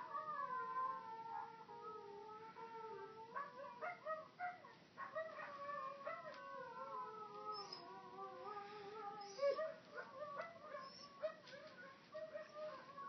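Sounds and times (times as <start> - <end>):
dog howling and calling: 0.0 - 13.0.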